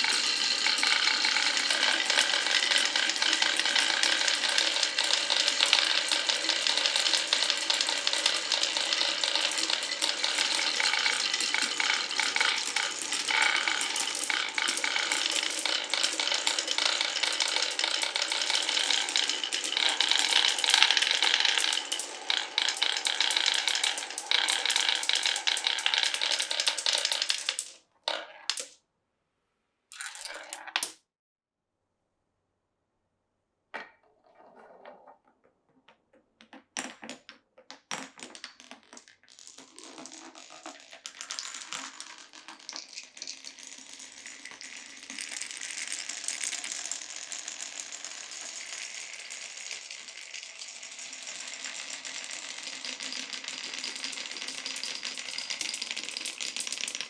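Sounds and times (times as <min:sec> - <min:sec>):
marbles rolling on wooden run: 0:00.0 - 0:28.8, 0:29.9 - 0:30.9, 0:36.5 - 0:57.0.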